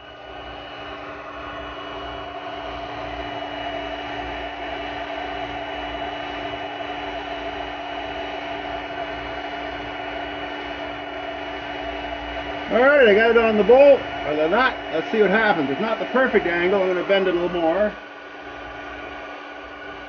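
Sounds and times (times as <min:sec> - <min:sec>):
cooling fan whirring: 0:00.0 - 0:20.0.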